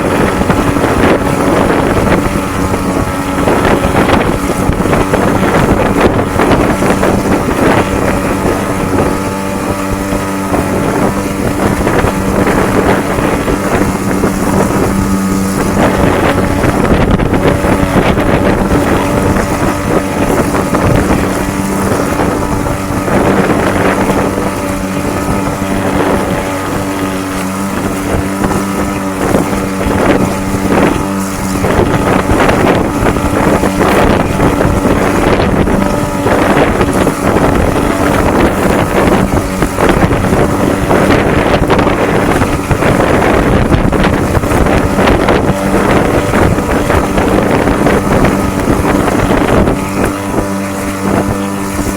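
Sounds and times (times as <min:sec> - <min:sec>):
boat motor humming: 0:00.0 - 0:51.9
wind buffeting microphone: 0:00.0 - 0:51.9.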